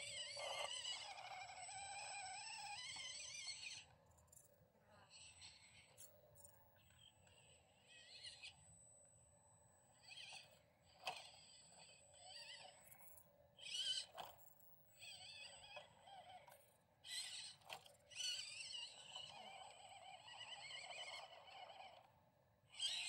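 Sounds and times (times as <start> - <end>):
small electric motor whining: 0.0 - 8.6, 9.9 - 23.0.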